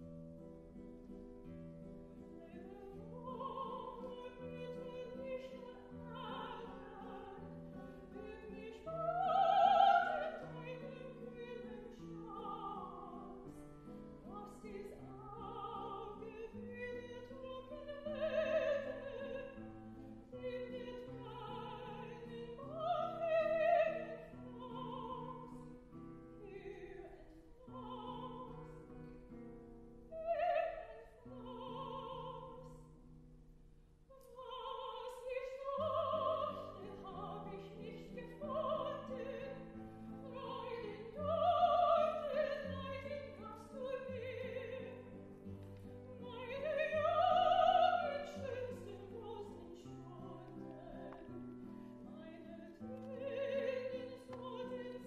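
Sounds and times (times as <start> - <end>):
plucked classical guitar: 0.0 - 55.0
person singing with vibrato: 2.4 - 25.7, 30.1 - 32.8, 34.1 - 45.2, 45.9 - 55.0.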